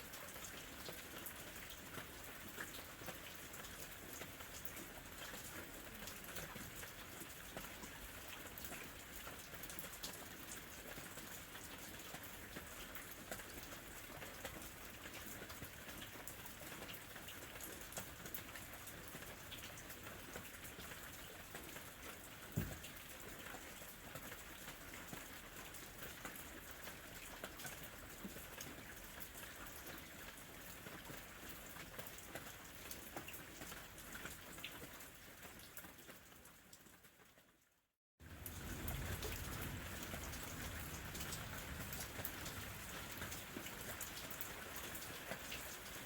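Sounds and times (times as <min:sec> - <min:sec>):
light rain pattering: 0:00.0 - 0:46.0.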